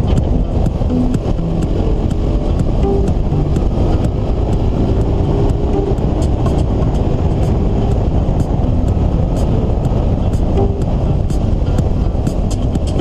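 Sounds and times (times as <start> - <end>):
vehicle engine and tyres rumbling: 0.0 - 13.0.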